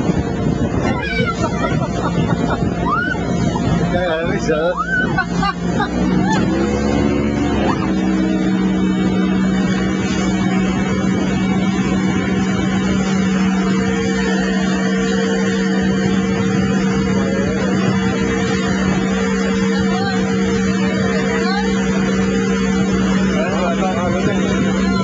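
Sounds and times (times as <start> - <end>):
motorboat engine humming: 0.0 - 25.0
water rushing: 0.0 - 25.0.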